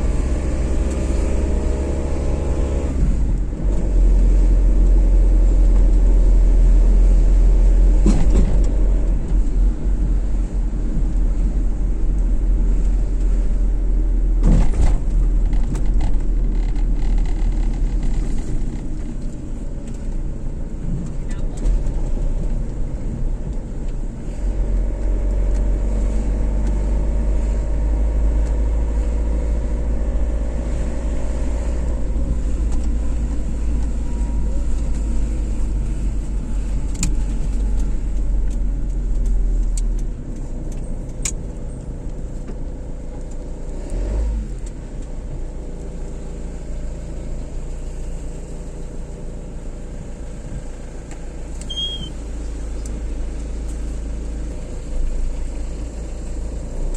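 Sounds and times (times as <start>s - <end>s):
road and engine rumble: 0.0s - 56.9s.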